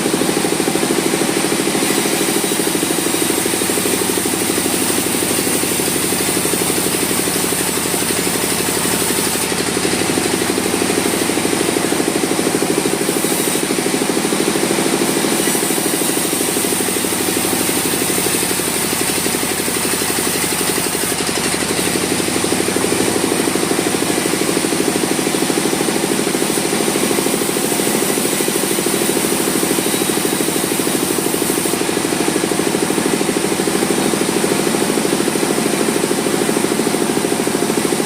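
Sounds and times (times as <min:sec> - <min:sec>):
sawmill machinery droning: 0:00.0 - 0:38.0.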